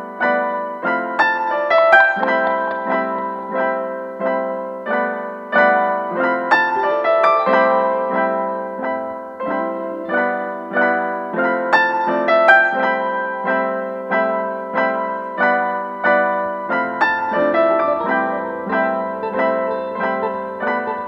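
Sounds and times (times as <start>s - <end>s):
gentle piano chords: 0.0s - 21.0s.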